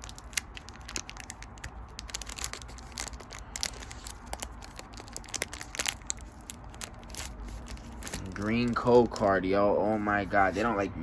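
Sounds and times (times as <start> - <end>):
foil wrapper crinkling: 0.0 - 10.4.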